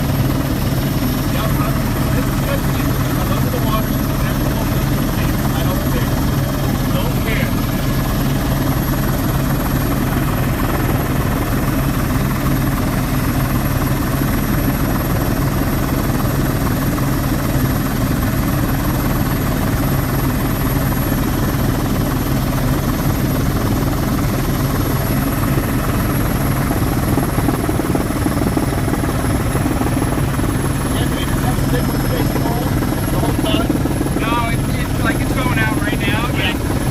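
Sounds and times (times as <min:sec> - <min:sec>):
helicopter cabin drone: 0:00.0 - 0:36.9.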